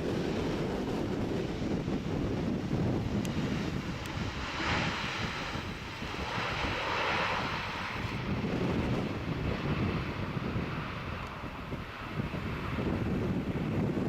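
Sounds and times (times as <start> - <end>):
jet engines whooshing: 0.0 - 13.7
wind buffeting microphone: 0.0 - 14.0.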